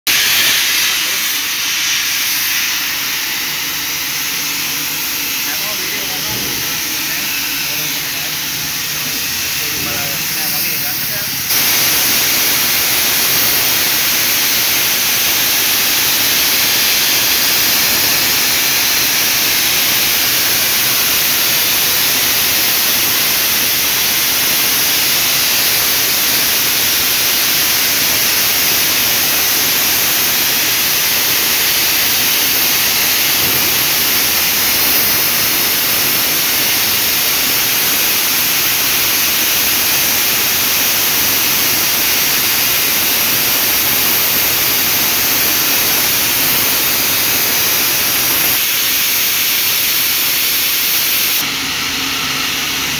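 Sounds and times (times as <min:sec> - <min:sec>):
steam locomotive safety valves hissing: 0:00.1 - 0:51.4.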